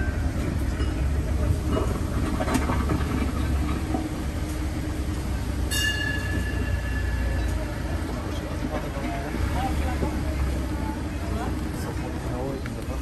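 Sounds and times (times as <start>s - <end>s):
road train rumbling: 0.0s - 13.0s.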